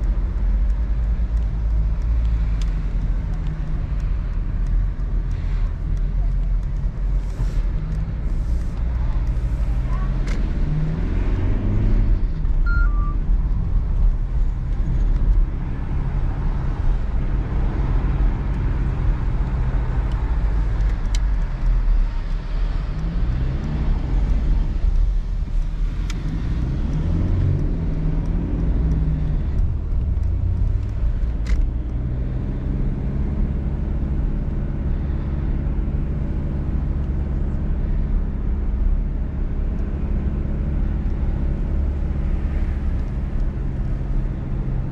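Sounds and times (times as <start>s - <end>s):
diesel car engine pulling: 0.0s - 44.9s.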